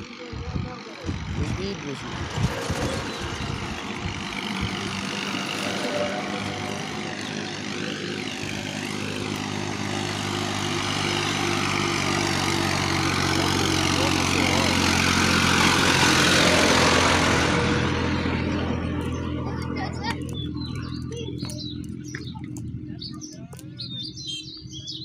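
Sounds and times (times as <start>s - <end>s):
motor engine running: 0.0s - 25.0s.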